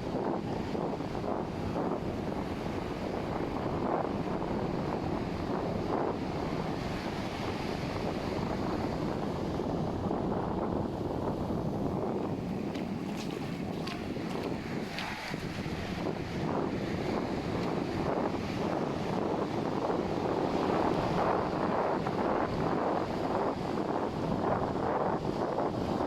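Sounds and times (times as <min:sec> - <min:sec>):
ocean surf washing on beach: 0:00.0 - 0:26.0
wind buffeting microphone: 0:00.0 - 0:26.0.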